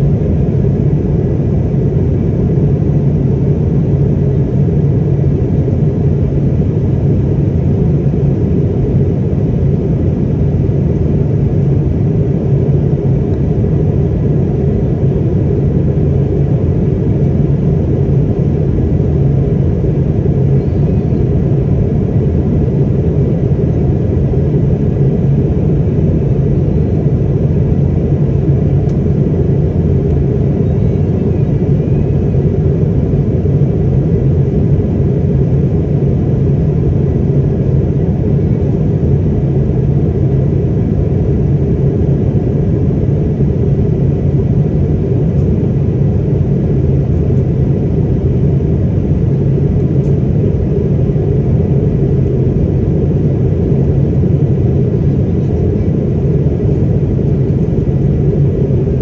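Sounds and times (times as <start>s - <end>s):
airliner cabin engine rush: 0.0s - 59.0s
low steady hum: 0.0s - 59.0s.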